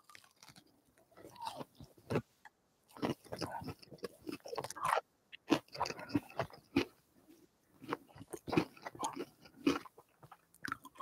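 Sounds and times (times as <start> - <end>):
crunchy biting and chewing: 0.0 - 2.3, 2.9 - 7.0, 7.8 - 11.0.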